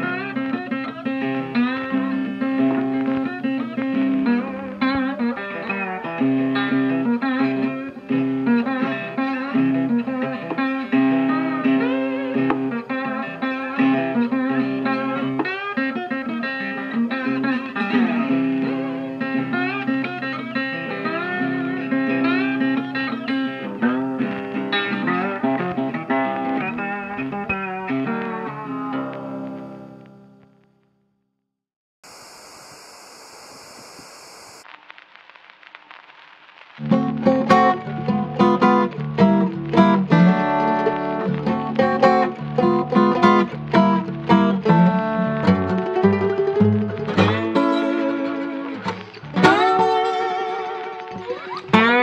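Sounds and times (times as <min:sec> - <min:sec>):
plucked guitar music: 0:00.0 - 0:30.4, 0:36.8 - 0:52.0.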